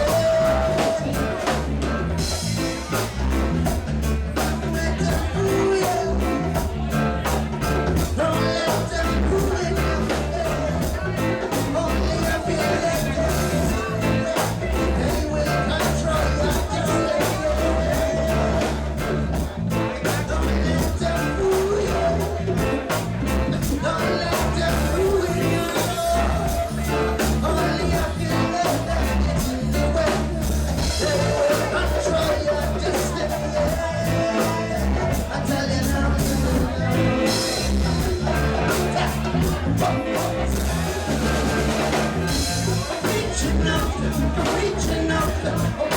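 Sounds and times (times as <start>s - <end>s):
drum kit: 0.0s - 45.9s
heavy bass line: 0.0s - 45.9s
live reggae band: 0.0s - 45.9s.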